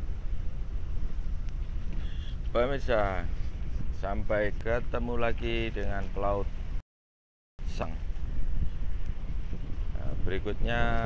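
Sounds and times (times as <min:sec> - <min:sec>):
sea water streaming along hull: 0:00.0 - 0:06.8, 0:07.6 - 0:10.9
wind buffeting microphone: 0:00.0 - 0:06.8, 0:07.6 - 0:11.0.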